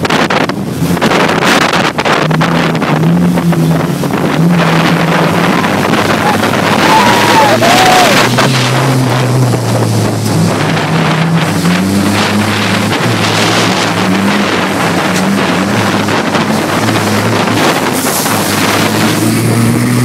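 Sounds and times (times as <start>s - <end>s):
car engine revving: 0.0s - 20.0s
loud wind: 0.0s - 20.0s.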